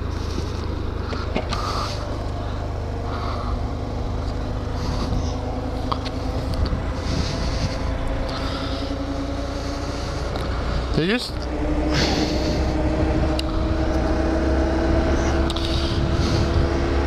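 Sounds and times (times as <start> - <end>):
wind buffeting microphone: 0.0 - 10.9, 11.5 - 17.0
motorcycle engine cruising: 0.0 - 17.0.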